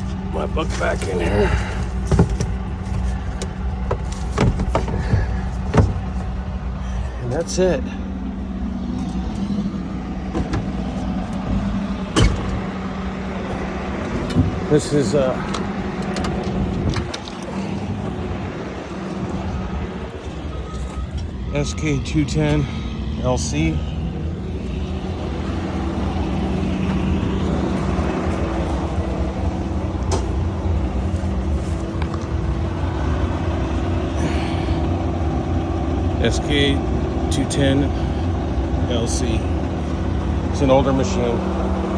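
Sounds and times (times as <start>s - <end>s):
diesel engine idling: 0.0s - 41.9s
excavator humming: 0.0s - 41.9s.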